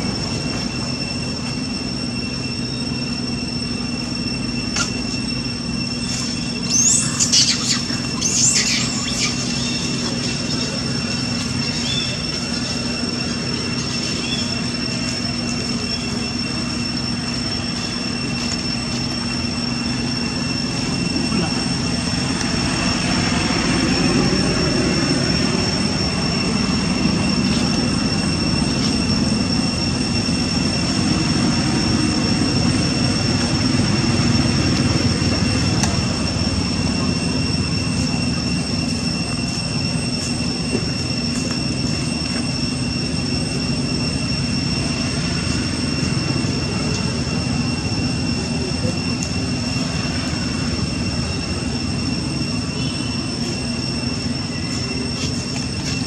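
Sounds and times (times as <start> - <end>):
high-pitched whine: 0.0 - 56.0.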